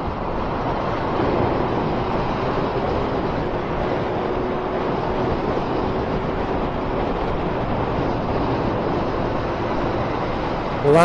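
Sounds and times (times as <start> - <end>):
wind rushing over microphone: 0.0 - 11.0
motorcycle engine at steady revs: 0.8 - 10.8.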